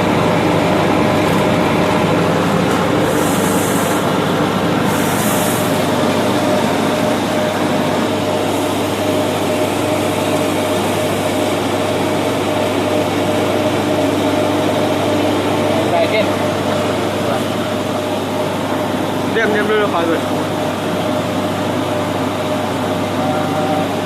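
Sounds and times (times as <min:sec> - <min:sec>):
machine drone: 0:00.0 - 0:24.0.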